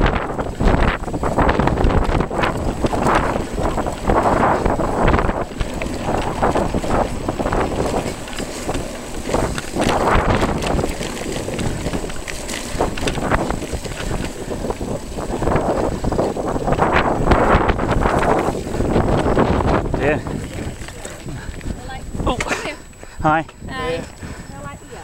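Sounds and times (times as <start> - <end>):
bike rattles and clicks: 0.0 - 25.0
bike tyre rumble on gravel: 0.0 - 25.0
wind buffeting microphone: 0.0 - 25.0.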